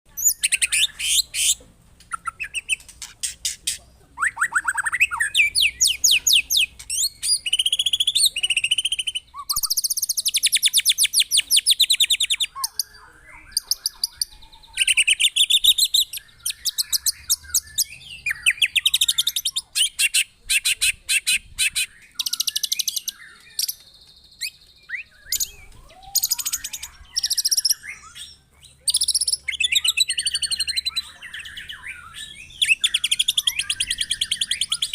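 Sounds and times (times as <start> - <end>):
bird singing trills and whistles: 0.1 - 34.9.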